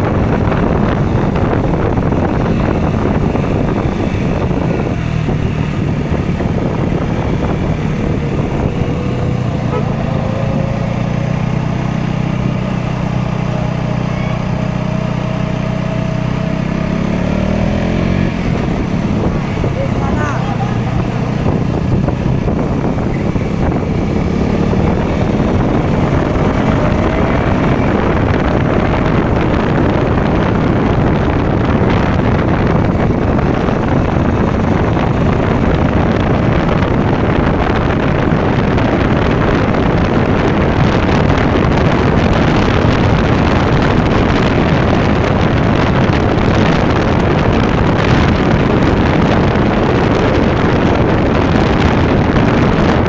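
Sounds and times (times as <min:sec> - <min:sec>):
motorcycle engine running: 0:00.0 - 0:53.0
wind on microphone: 0:00.0 - 0:53.0.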